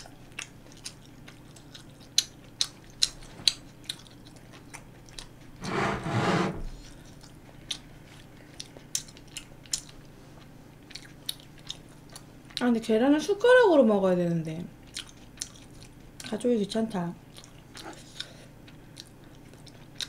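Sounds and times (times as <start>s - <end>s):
chewing soft food: 0.0s - 5.6s, 6.7s - 12.9s, 14.7s - 16.5s, 17.2s - 20.0s.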